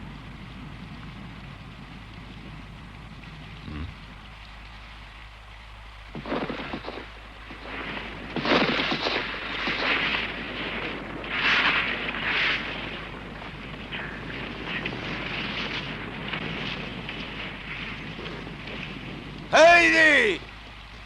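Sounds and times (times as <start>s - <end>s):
thunder cracking and rumbling: 0.0s - 5.1s, 6.0s - 21.0s
rain: 0.0s - 21.0s.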